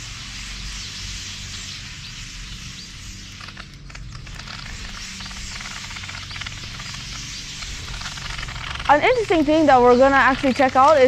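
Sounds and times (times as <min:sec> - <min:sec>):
birds twittering and chirping: 0:00.0 - 0:11.0
steady hiss: 0:00.0 - 0:11.0.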